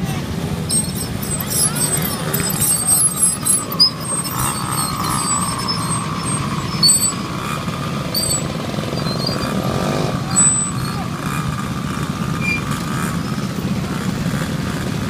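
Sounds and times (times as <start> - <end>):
high engine whine: 0.0 - 15.0
minibike engines passing: 0.0 - 15.0.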